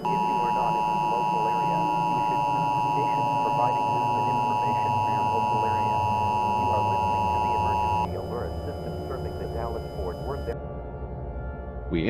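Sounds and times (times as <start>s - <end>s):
loud two-tone alert signal: 0.0s - 10.6s.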